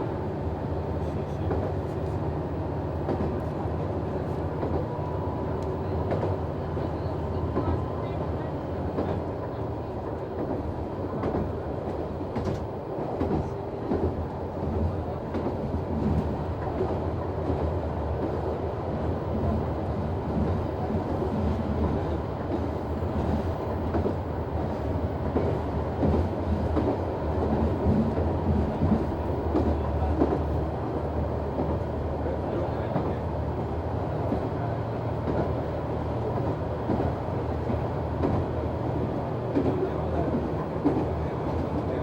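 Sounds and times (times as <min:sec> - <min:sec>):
diesel railcar engine hum: 0:00.0 - 0:42.0.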